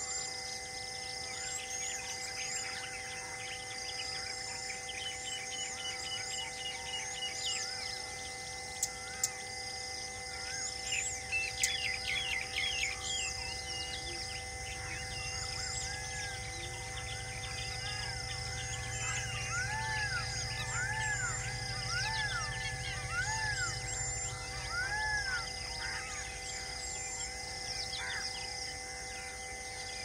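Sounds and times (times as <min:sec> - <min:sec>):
faint steady hum: 0:00.0 - 0:30.0
small birds chirping and whistling: 0:00.0 - 0:30.0.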